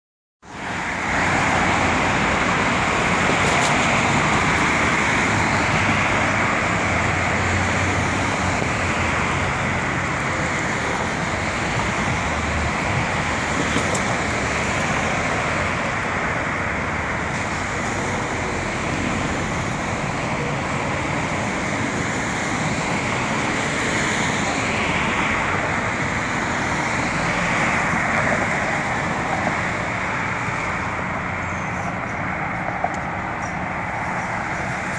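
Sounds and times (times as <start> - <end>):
road traffic noise: 0.4 - 34.9.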